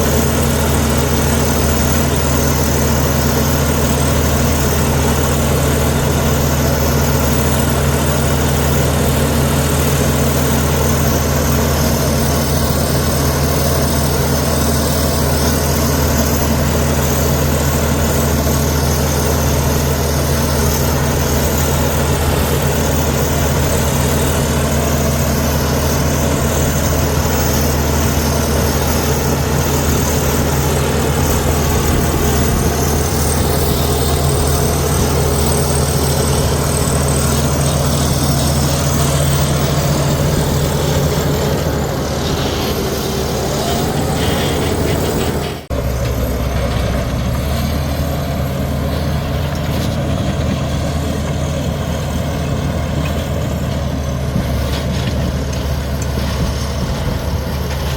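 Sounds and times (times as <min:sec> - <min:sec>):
bulldozer diesel engine drone: 0:00.0 - 0:57.9.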